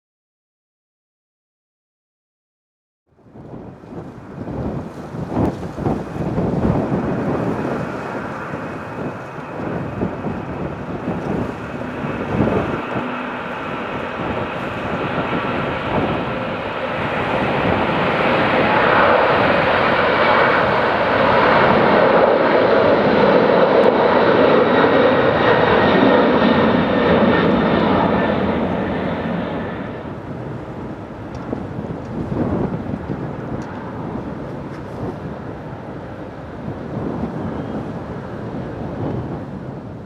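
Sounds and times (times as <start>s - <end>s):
jet engines roaring with whine: 3.2s - 40.0s.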